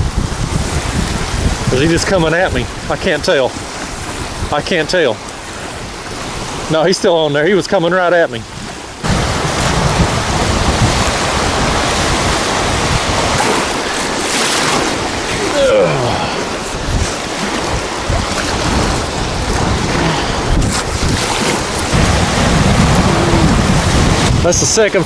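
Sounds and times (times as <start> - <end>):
gusty wind buffeting microphone: 0.0 - 25.0
waves washing against shore: 0.0 - 25.0.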